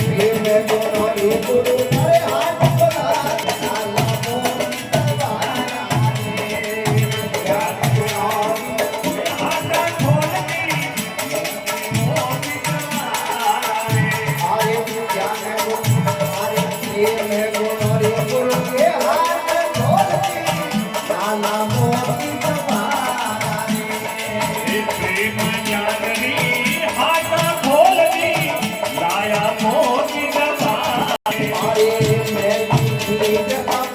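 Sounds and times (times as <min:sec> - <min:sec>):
person singing: 0:00.0 - 0:33.9
rattling jingling percussion: 0:00.0 - 0:33.9.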